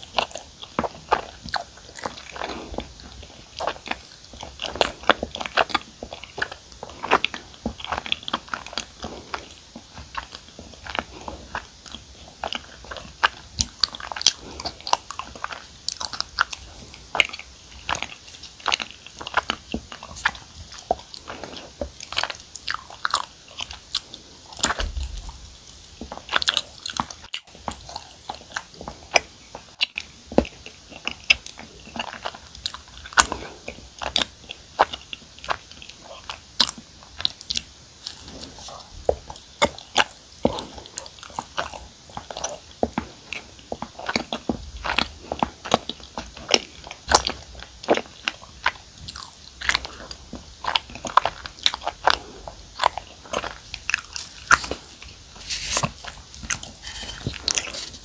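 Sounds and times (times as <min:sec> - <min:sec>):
chewing sticky rice cakes: 0:00.0 - 0:58.0.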